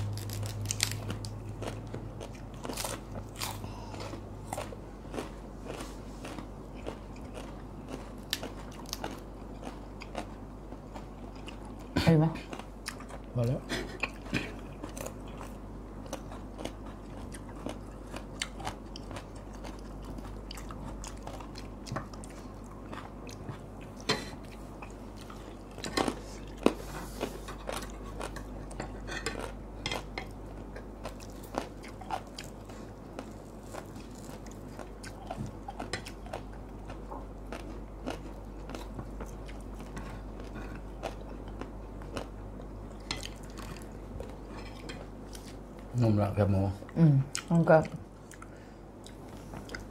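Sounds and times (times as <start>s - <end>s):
people chewing crisp food: 0.0s - 46.2s, 46.8s - 49.9s
steady low hum: 0.0s - 49.9s.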